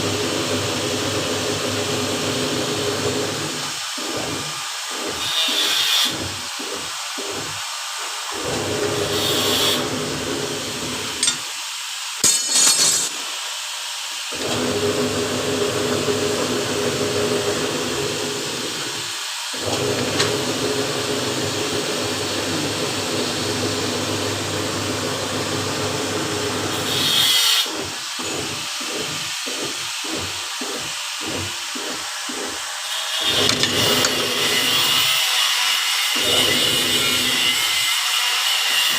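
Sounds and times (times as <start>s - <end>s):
power tool humming: 0.0s - 38.9s.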